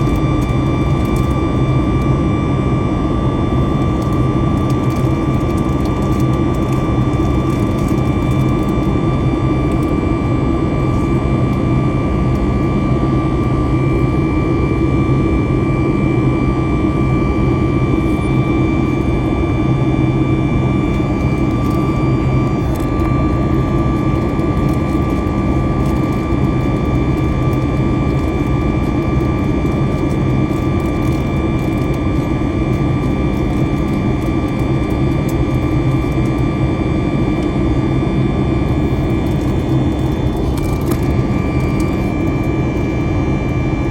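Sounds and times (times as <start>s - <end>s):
jet engines droning in cabin: 0.0s - 43.9s.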